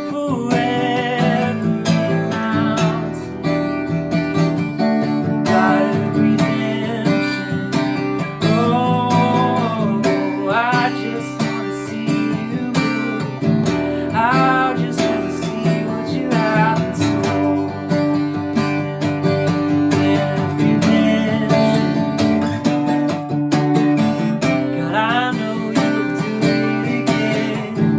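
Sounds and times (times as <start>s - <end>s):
person singing: 0.0s - 22.9s, 24.0s - 27.9s
acoustic guitar strumming: 0.0s - 27.9s.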